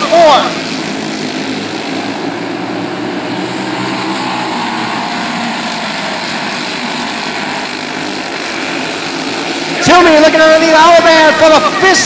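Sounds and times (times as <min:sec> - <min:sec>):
kart engines buzzing: 0:00.0 - 0:12.0.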